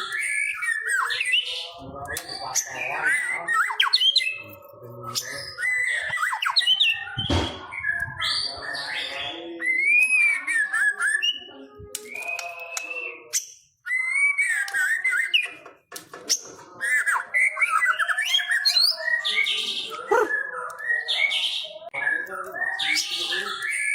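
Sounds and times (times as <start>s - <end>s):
songbird singing whistles: 0.0s - 4.5s, 5.1s - 15.6s, 16.3s - 23.9s.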